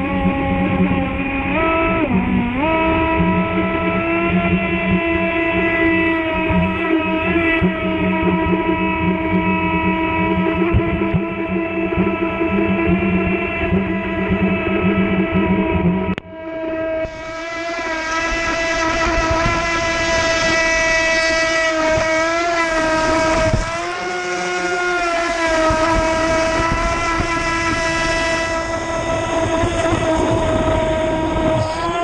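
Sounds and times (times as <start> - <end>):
electric motor whine: 0.0 - 32.0
water rushing along hull: 0.0 - 32.0.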